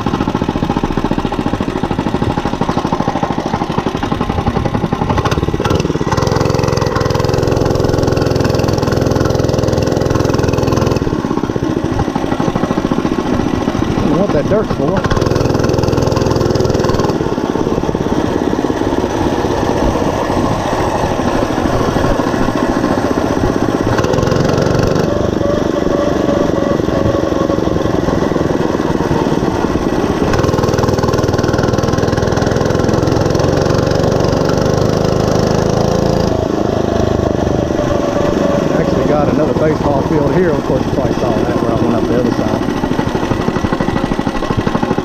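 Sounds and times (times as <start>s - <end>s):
mini bike engine running: 0.0s - 45.0s.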